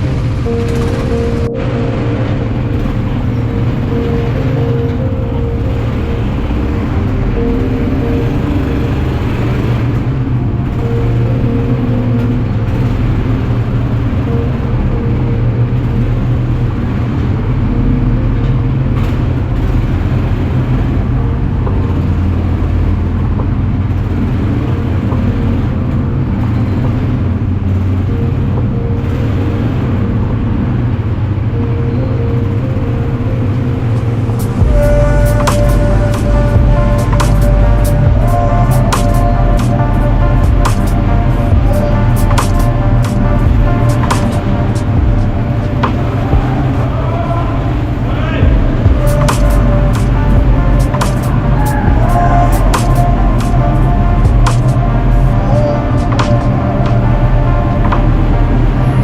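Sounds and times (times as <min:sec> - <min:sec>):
quad bike engine droning: 0:00.0 - 0:59.0.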